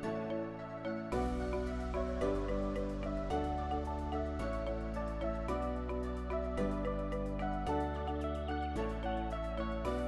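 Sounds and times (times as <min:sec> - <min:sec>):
soft instrumental music with light beat: 0:00.0 - 0:10.0.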